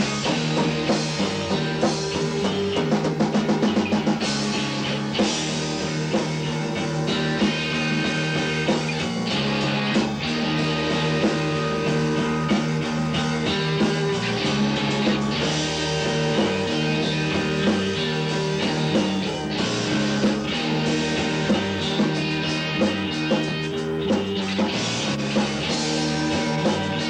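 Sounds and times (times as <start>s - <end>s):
rock music with drums and guitar: 0.0s - 27.0s.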